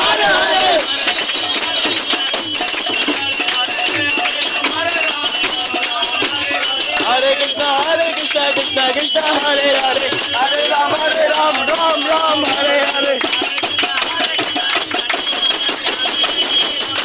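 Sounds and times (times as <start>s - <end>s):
group singing a chant: 0.0s - 15.1s
hand clapping: 0.0s - 17.0s
jingling hand percussion: 0.0s - 17.0s.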